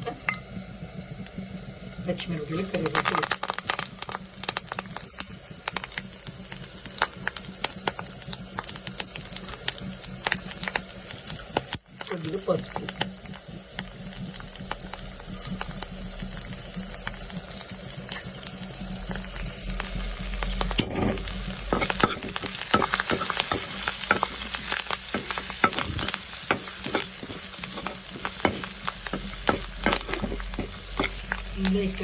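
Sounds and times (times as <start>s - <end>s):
chillies sizzling in hot oil: 0.0s - 32.0s.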